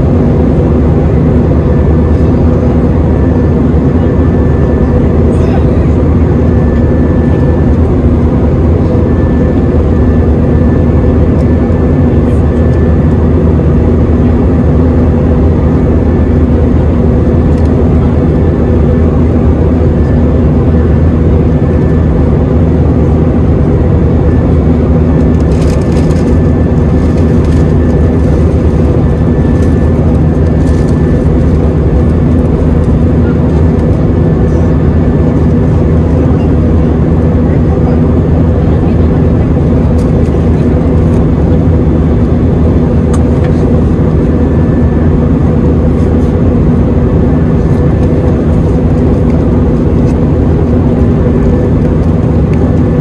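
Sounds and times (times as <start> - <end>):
faint steady whine: 0.0 - 53.0
jet engine roar in cabin: 0.0 - 53.0.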